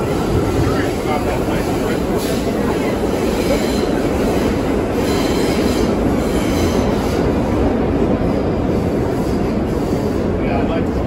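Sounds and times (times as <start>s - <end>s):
steel wheels rumbling on rails: 0.0s - 11.0s.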